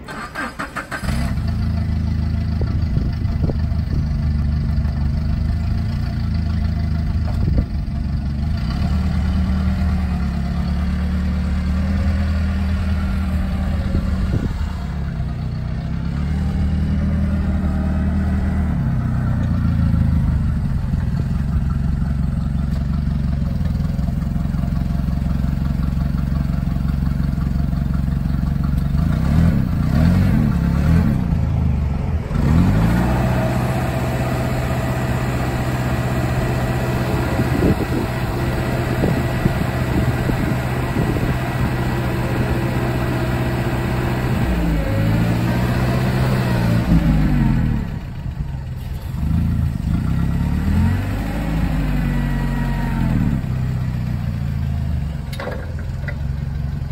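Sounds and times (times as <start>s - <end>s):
forklift engine running: 0.0s - 56.9s.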